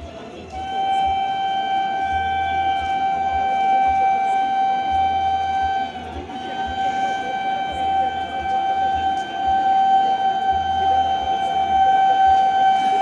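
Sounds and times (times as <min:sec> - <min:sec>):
train horn long blast: 0:00.5 - 0:13.0.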